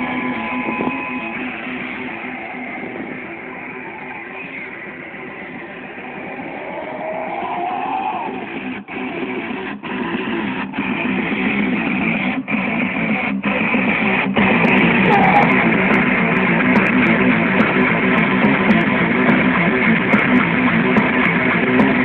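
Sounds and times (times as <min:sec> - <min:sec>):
rock music with electric guitar: 0:00.0 - 0:22.0.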